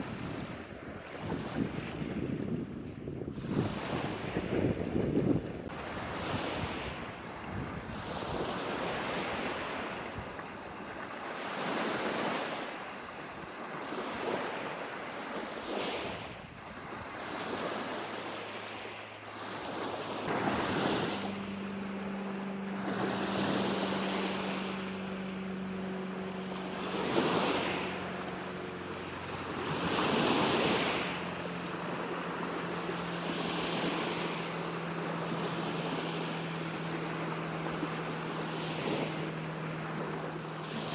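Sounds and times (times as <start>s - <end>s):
low engine hum: 0.0s - 40.9s
waves washing onto sandy shore: 0.0s - 40.9s.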